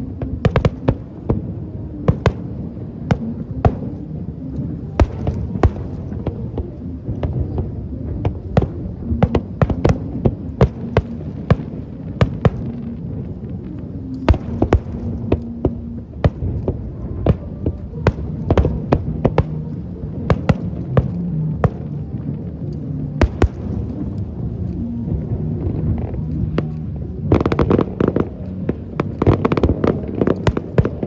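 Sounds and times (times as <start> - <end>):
fireworks bangs and crackles: 0.0 - 31.0
low rumble: 0.0 - 31.0.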